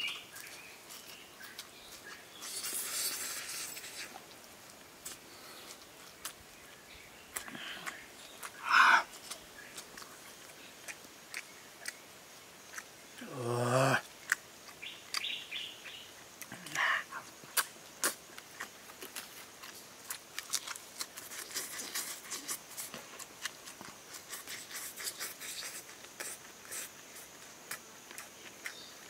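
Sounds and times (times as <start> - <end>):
crunching lettuce leaf: 0.0 - 12.0, 17.5 - 29.0
person chewing food: 0.0 - 13.0, 14.0 - 15.3, 17.2 - 29.0.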